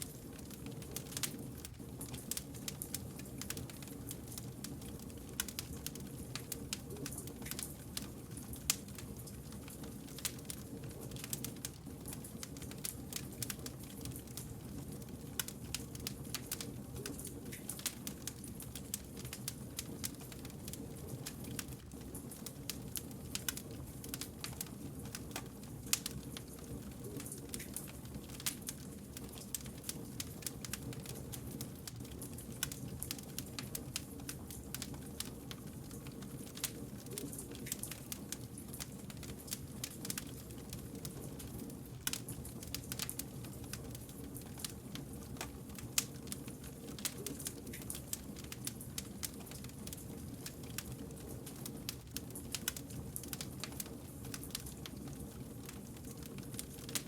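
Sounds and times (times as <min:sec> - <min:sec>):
fire crackles and pops: 0:00.0 - 0:57.0
wood fire burning: 0:00.0 - 0:57.0.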